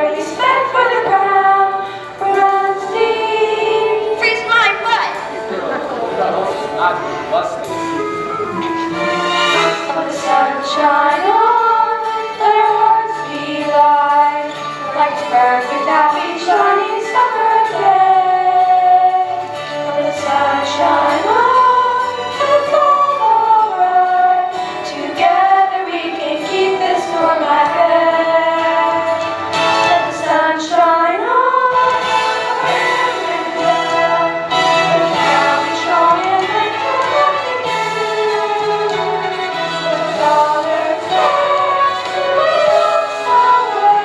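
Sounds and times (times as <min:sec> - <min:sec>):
young voices singing: 0:00.0 - 0:06.7, 0:09.6 - 0:44.0
instrumental backing music: 0:00.0 - 0:44.0.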